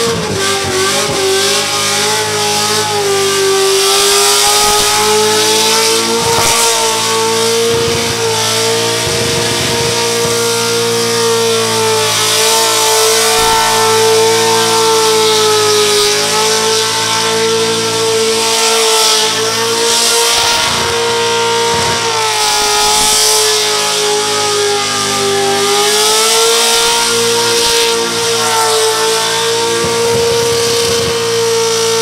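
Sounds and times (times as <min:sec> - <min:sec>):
car engine revving high: 0:00.0 - 0:32.0.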